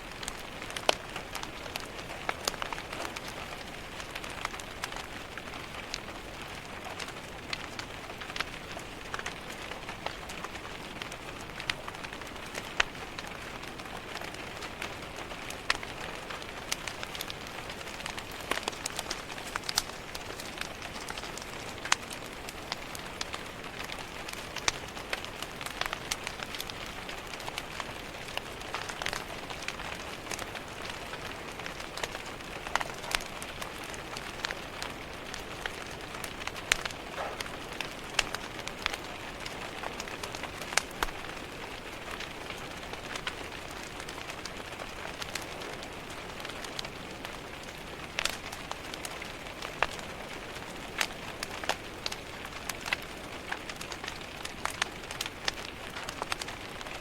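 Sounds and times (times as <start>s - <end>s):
rain on a window: 0.0s - 57.0s
wood fire crackling: 0.0s - 57.0s.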